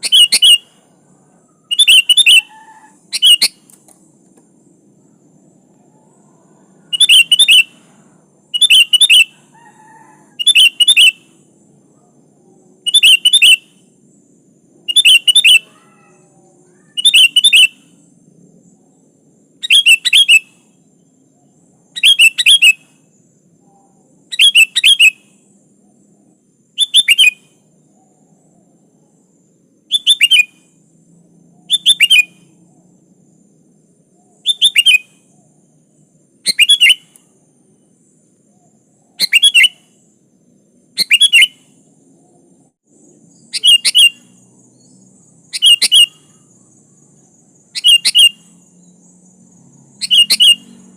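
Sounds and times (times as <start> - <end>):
bird calling: 0.0 - 14.1, 14.8 - 18.1, 19.6 - 25.4, 26.2 - 28.9, 29.8 - 30.8, 31.4 - 33.1, 34.1 - 35.7, 36.4 - 40.2, 40.9 - 42.5, 43.3 - 49.0, 49.9 - 50.9.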